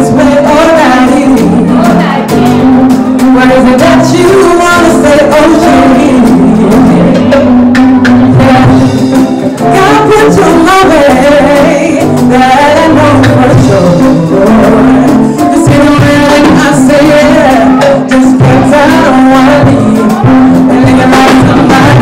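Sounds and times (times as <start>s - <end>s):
woman singing: 0.0s - 7.5s, 8.2s - 22.0s
rock band playing: 0.0s - 22.0s.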